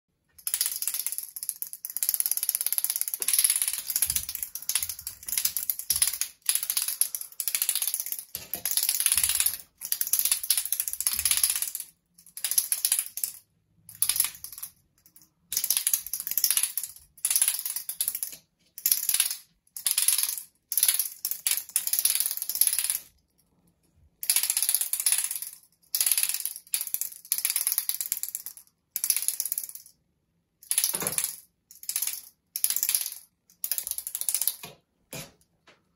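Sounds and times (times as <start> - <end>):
plastic toy clacking: 0.4 - 23.2, 24.2 - 30.0, 30.6 - 35.4.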